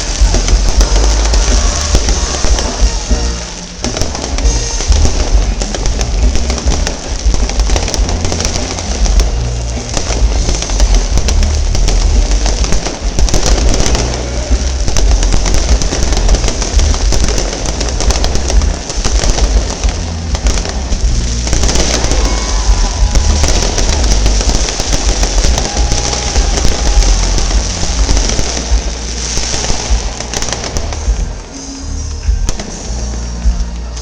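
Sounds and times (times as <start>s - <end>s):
fireworks booming and crackling: 0.0s - 34.0s
music playing: 0.0s - 34.0s.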